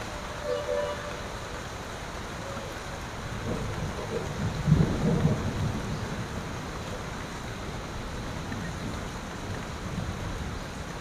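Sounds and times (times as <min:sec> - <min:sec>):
rain falling on trees and street: 0:00.0 - 0:11.0.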